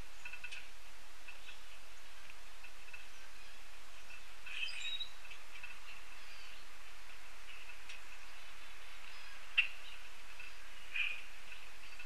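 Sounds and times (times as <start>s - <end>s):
birds chirping: 0.0s - 12.0s
faint outdoor background: 0.0s - 12.0s.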